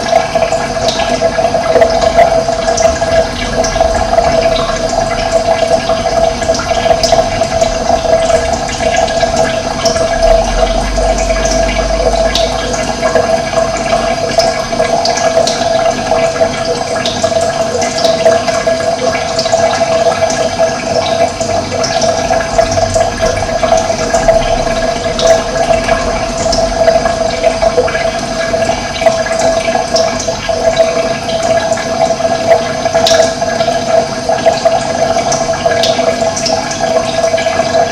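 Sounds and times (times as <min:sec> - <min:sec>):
running water: 0:00.0 - 0:37.9.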